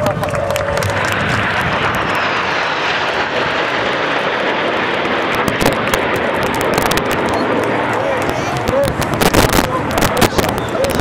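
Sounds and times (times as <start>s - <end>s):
jet fighters flying past: 0.0s - 11.0s.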